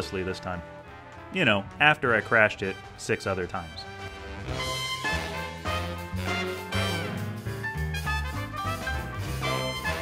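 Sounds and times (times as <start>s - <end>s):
swing music with brass and bass: 0.0s - 10.0s.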